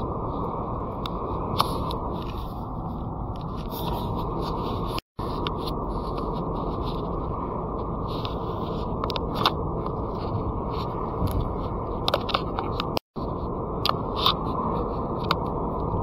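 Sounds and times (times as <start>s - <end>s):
road and tyre noise: 0.0s - 16.0s.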